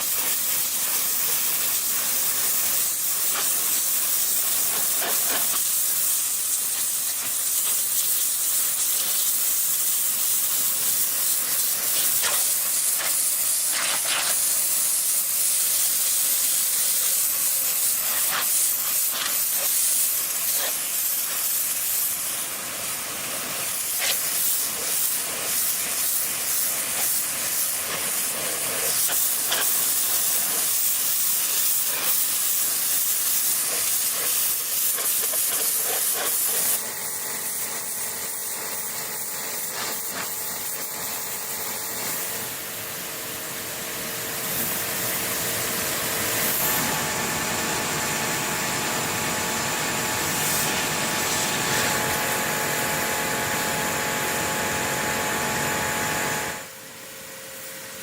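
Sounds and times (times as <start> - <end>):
steady high hiss: 0.0 - 54.6.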